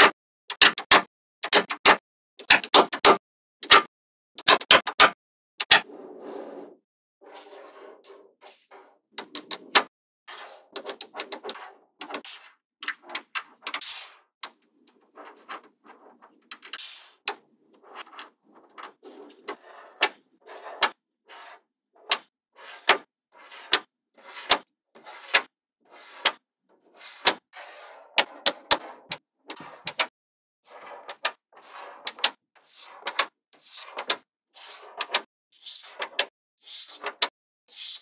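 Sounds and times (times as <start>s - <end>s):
balls scraping and rattling: 4.4s - 38.0s.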